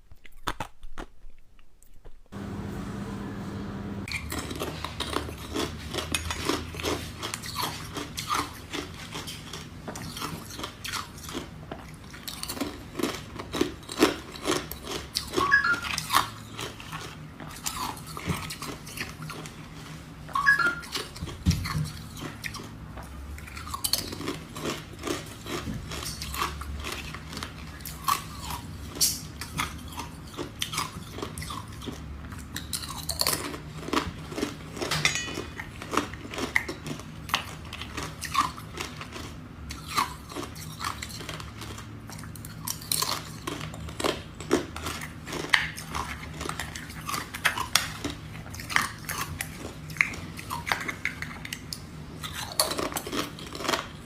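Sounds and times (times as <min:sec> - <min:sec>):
person chewing ice: 0:00.0 - 0:02.1, 0:04.1 - 0:54.0.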